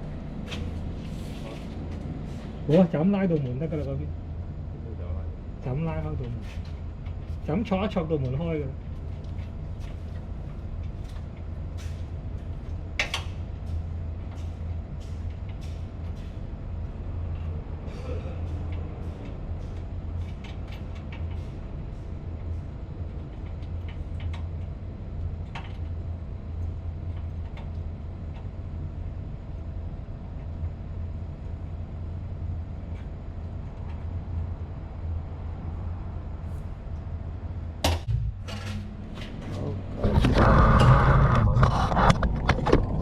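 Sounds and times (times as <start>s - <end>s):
machinery humming: 0.0s - 43.0s.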